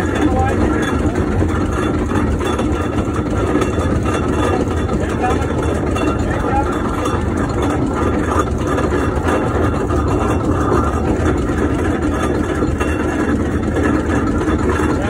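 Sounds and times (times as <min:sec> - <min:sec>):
steam engine rumbling: 0:00.0 - 0:15.0.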